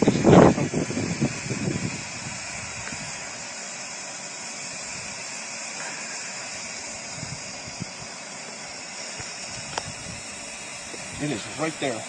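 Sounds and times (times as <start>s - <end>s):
steam hissing from safety valve: 0.0s - 12.0s.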